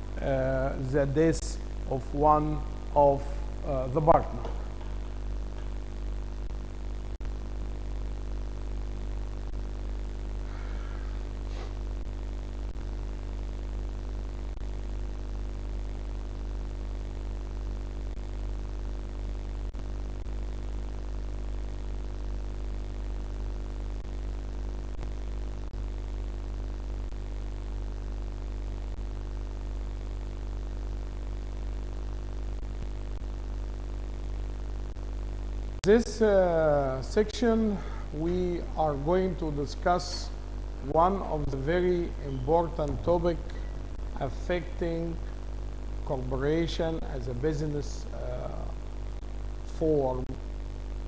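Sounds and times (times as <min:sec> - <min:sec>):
buzzy electrical hum: 0:00.0 - 0:51.0.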